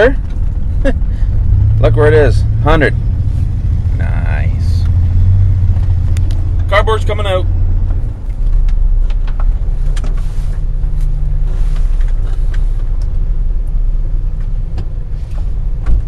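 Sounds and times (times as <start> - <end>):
pickup engine rumbling: 0.2 - 15.9.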